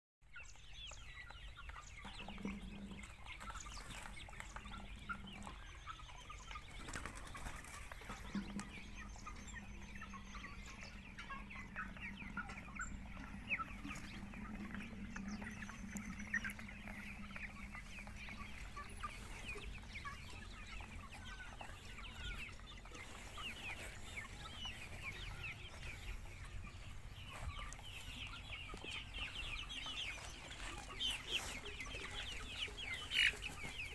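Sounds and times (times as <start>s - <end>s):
chickens clucking: 0.2s - 33.9s.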